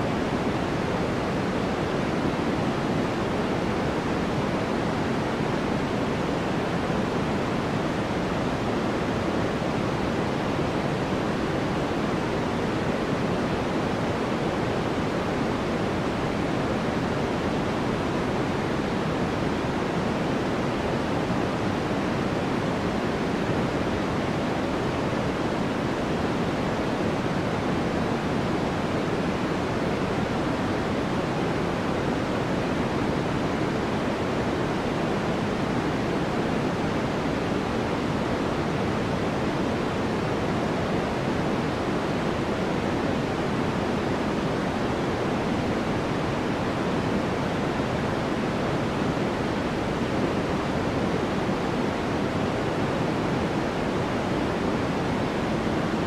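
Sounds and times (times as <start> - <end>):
steady white noise: 0.0 - 56.0.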